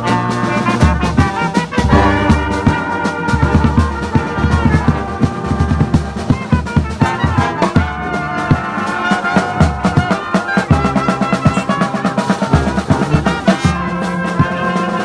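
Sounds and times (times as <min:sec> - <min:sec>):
steady low beat: 0:00.0 - 0:14.7
brass band playing: 0:00.0 - 0:15.0.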